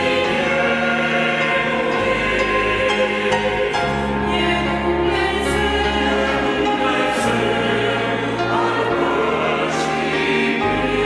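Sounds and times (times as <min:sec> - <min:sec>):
church choir singing a hymn: 0:00.0 - 0:11.0
instrumental accompaniment: 0:00.0 - 0:11.0.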